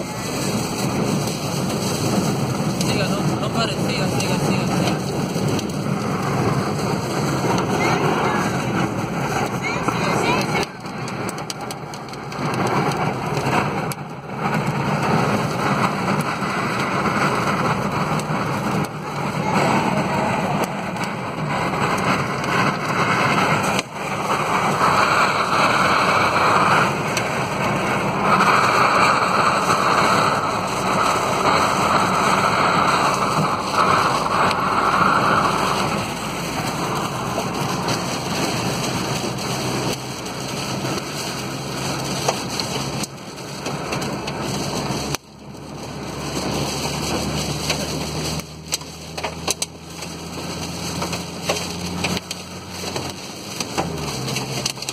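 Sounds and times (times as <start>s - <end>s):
car road noise: 0.0s - 54.9s
rain and hail on car roof: 0.0s - 54.9s.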